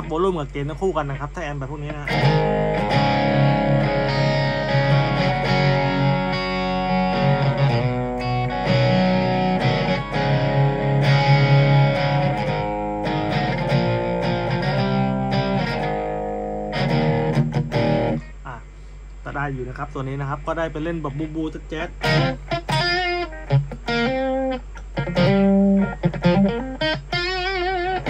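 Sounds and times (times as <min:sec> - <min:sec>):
mildly overdriven electric guitar: 0:01.9 - 0:18.5, 0:21.9 - 0:28.0.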